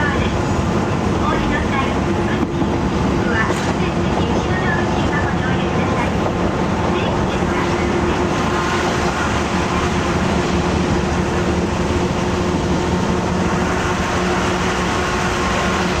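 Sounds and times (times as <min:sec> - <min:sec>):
constant hums: 0:00.0 - 0:16.0
railcar engine drone: 0:00.0 - 0:16.0
rumbling wheel noise: 0:00.0 - 0:16.0.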